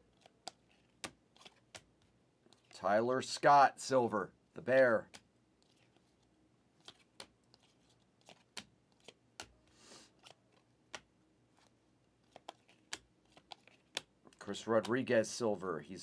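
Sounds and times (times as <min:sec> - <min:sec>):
cards clicking and sliding: 0:00.1 - 0:02.8, 0:04.8 - 0:15.3.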